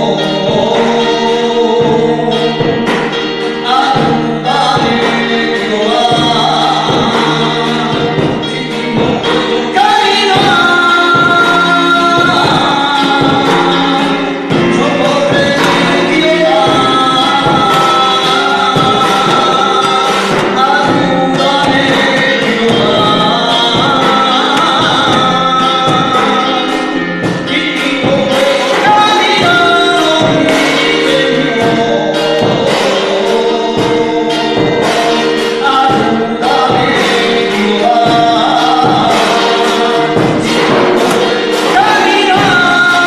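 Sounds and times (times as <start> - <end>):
electronic keyboard with steady beat: 0.0 - 43.0
man singing into a microphone: 0.0 - 43.0.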